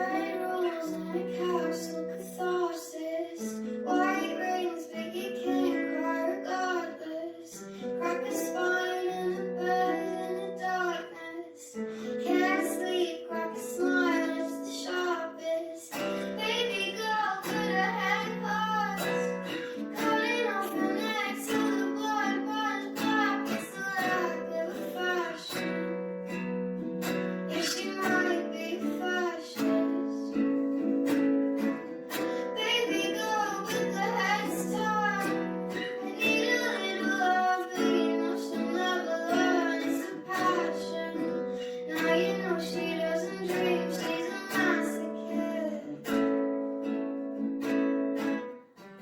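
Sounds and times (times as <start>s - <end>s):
woman singing with reverb: 0.0s - 25.6s, 27.5s - 30.3s, 32.3s - 46.0s
plucked guitar: 0.0s - 49.0s.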